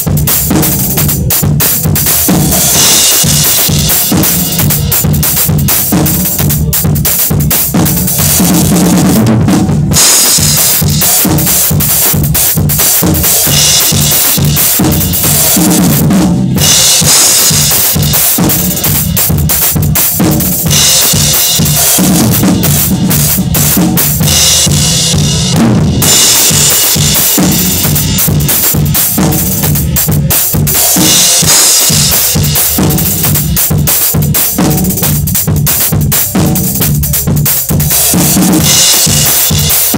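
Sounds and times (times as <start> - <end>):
cymbals: 0.0 - 39.9.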